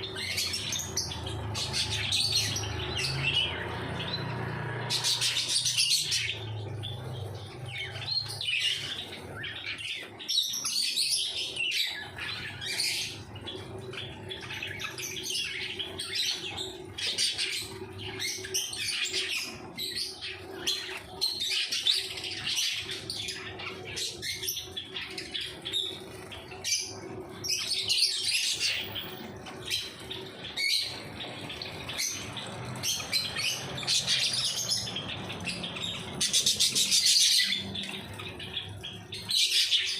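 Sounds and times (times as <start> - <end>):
pet birds chirping: 0.0 - 39.9.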